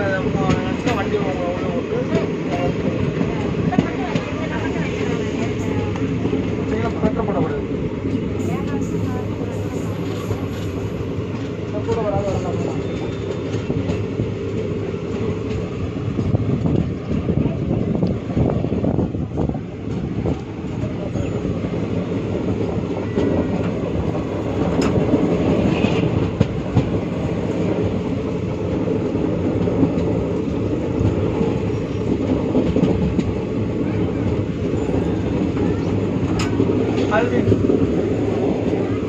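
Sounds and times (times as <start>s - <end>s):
train wheels rumbling on rail: 0.0s - 39.0s
sharp clicks of train wheels: 0.2s - 39.0s.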